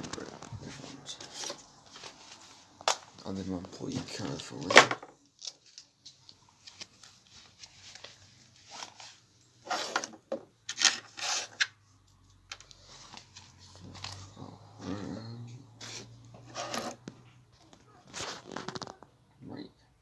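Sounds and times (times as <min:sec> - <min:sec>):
belongings rustling and scraping: 0:00.0 - 0:11.8, 0:12.5 - 0:19.2.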